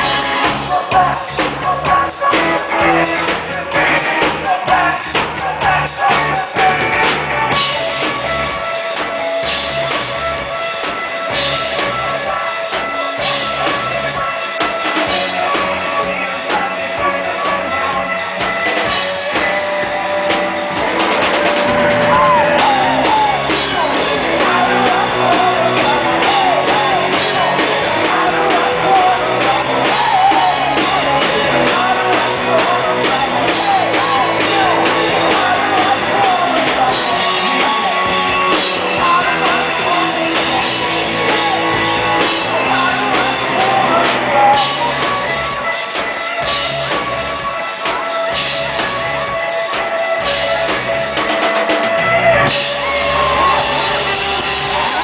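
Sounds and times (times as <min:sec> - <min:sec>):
drums: 0:00.0 - 0:55.0
guitar: 0:00.0 - 0:55.0.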